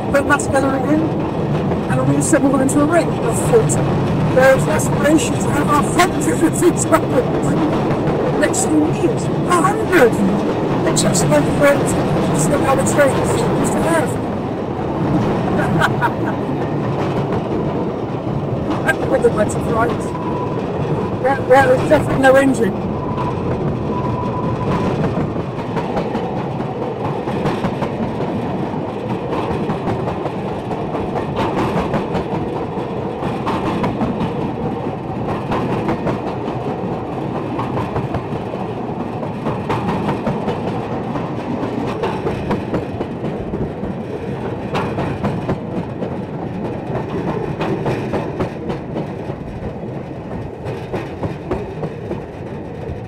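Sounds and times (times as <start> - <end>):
steel wheels running on rails: 0.0 - 53.0
wheels clicking over rail joints: 0.0 - 53.0.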